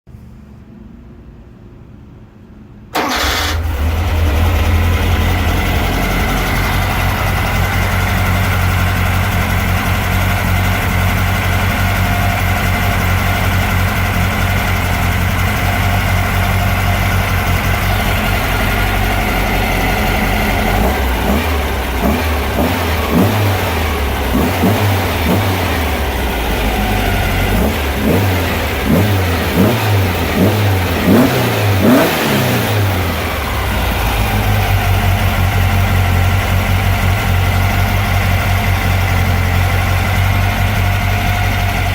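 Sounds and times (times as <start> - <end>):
car engine cranking and running: 3.0 - 41.9.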